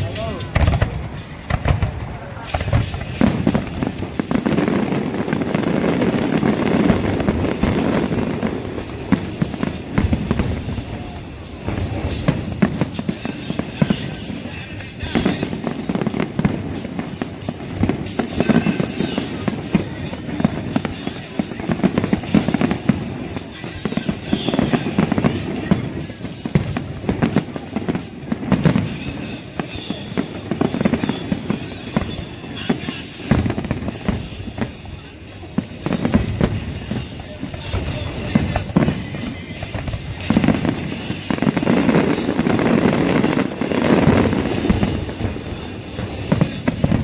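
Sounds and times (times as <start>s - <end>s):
fireworks bursts and crackles: 0.0s - 47.0s
music: 0.0s - 47.0s.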